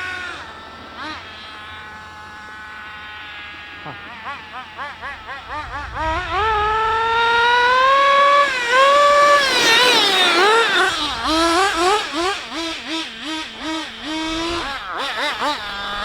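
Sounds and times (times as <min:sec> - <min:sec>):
rc car nitro engine revving: 0:00.0 - 0:16.0.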